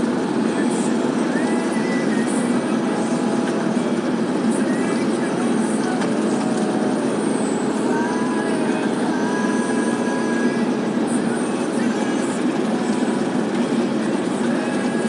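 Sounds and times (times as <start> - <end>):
heavy highway traffic: 0.0 - 15.0.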